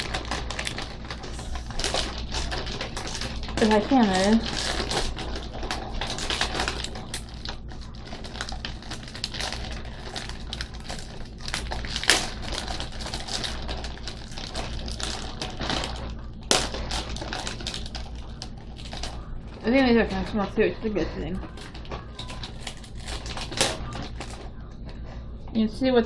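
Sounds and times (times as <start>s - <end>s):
plastic wrapper crinkling: 0.0s - 25.1s.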